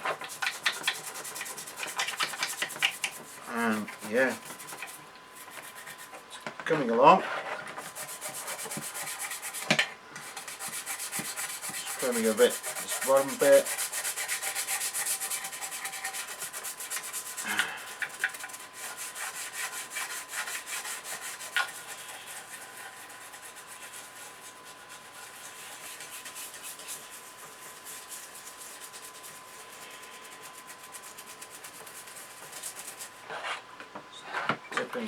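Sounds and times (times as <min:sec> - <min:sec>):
toothbrush scrubbing metal: 0:00.0 - 0:06.3, 0:07.6 - 0:33.3.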